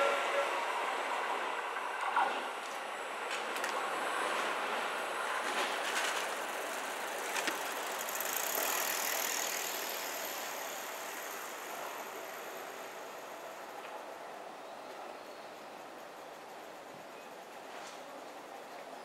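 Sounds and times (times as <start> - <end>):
electric train running past: 0.0 - 19.0.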